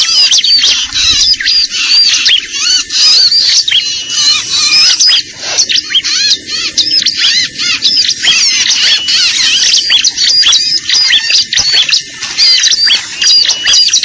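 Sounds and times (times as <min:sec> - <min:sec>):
bird chirps and twitters: 0:00.0 - 0:14.0.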